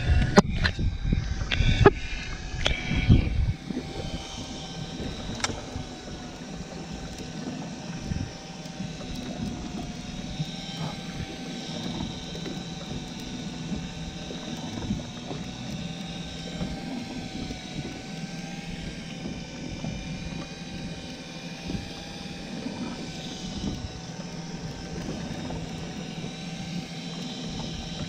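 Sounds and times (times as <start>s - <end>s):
boat and wind rumble: 0.0s - 28.0s
electric fishing reel motor whine: 0.0s - 28.0s.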